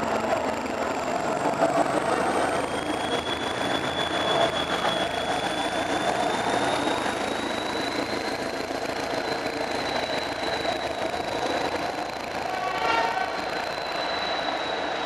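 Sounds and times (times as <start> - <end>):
diesel train engine running: 0.0 - 15.0.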